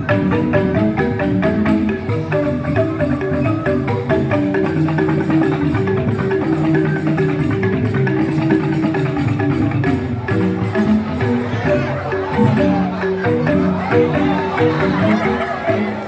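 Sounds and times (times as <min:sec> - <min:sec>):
bamboo xylophones struck with mallets: 0:00.0 - 0:16.0
drum and percussion: 0:00.0 - 0:16.0.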